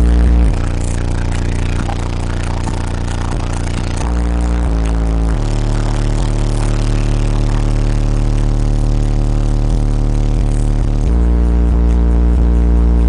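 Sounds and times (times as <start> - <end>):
sustained bass notes: 0.0 - 13.0.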